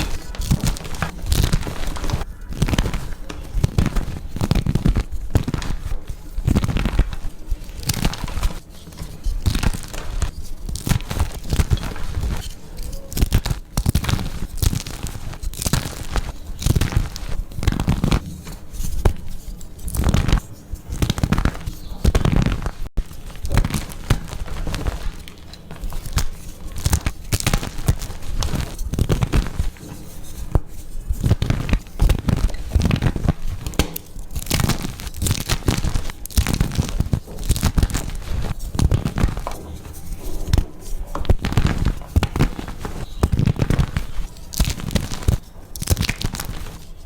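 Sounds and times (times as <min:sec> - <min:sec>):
chalk crunching and crumbling: 0:00.0 - 0:47.0.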